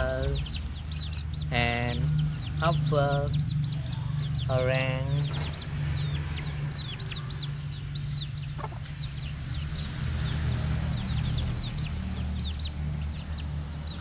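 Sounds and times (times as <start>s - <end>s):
chicks peeping: 0.0s - 14.0s
steady low hum: 0.0s - 14.0s.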